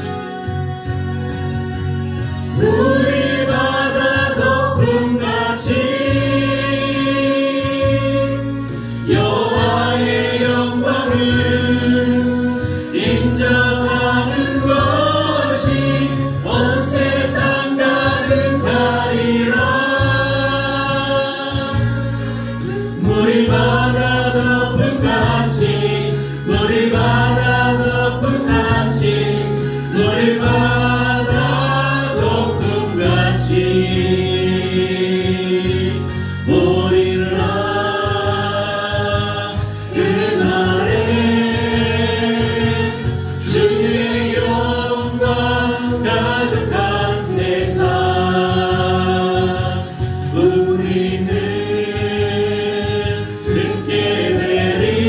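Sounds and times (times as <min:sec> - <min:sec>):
instrumental accompaniment with bass: 0:00.0 - 0:55.0
group singing praise song: 0:02.4 - 0:55.0.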